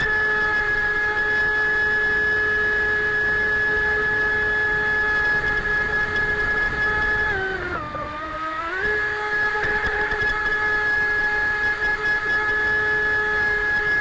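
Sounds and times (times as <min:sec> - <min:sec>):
model boat motor whine: 0:00.0 - 0:14.0.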